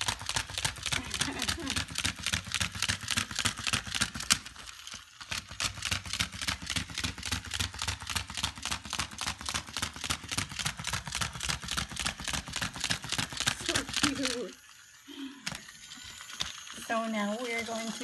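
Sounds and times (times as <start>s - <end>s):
toy dog mechanism clicking: 0.0s - 18.0s.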